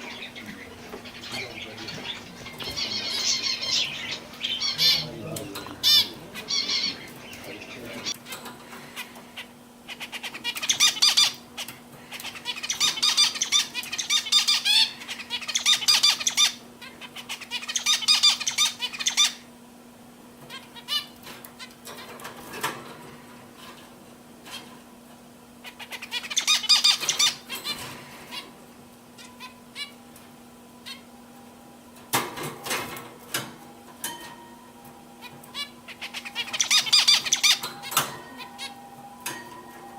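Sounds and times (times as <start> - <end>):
canaries trilling: 0.0 - 19.5, 20.4 - 24.9, 25.5 - 39.9.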